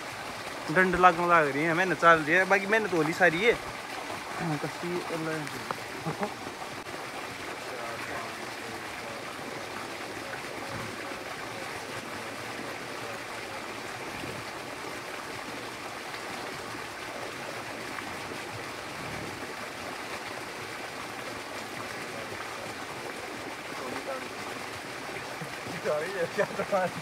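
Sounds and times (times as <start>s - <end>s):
water pouring from pipe: 0.0s - 27.0s.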